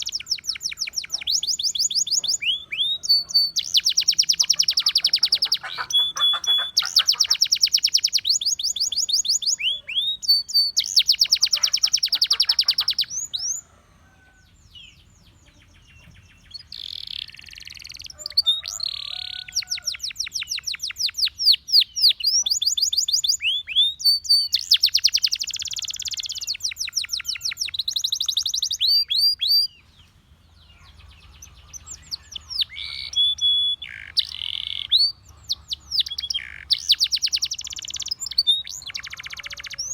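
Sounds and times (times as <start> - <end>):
canary singing trills: 0.0 - 13.7, 14.3 - 39.9.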